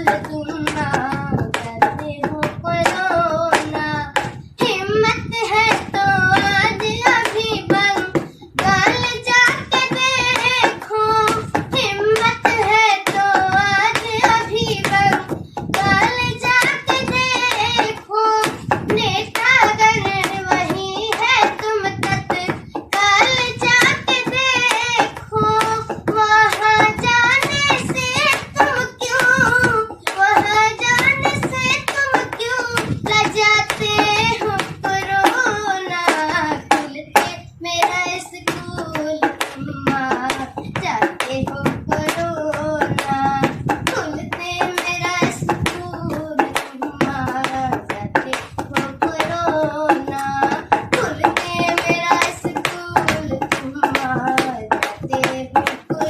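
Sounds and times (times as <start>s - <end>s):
child singing: 0.0s - 56.0s
hand-struck drum beats: 0.0s - 56.0s.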